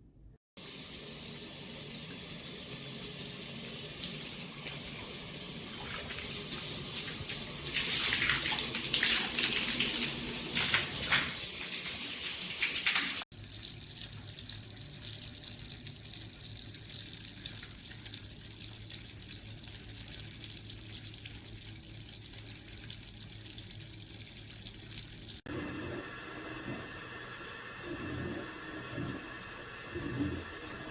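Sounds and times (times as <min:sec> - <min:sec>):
tap water running into sink: 0:00.6 - 0:25.4.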